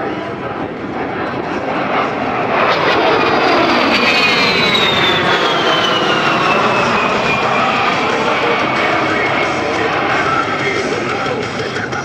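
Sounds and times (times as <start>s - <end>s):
loud jet engine noise: 0.0s - 12.0s.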